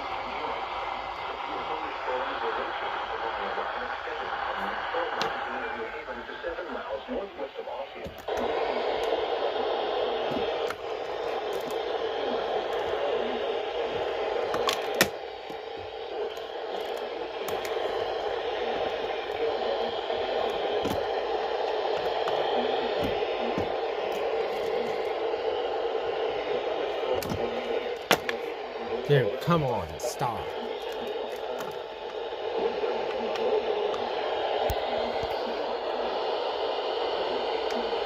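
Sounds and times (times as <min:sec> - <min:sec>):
radio static hissing: 0:00.0 - 0:38.0.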